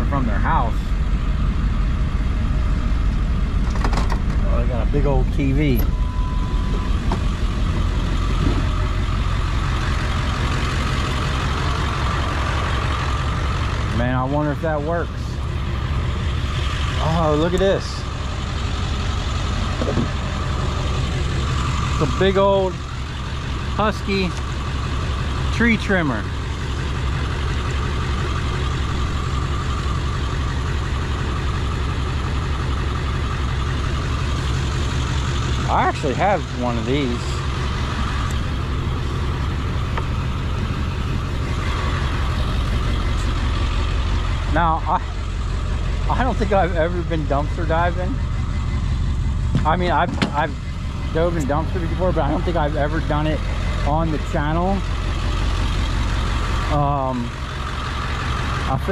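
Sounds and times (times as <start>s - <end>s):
truck engine running: 0.0s - 58.9s.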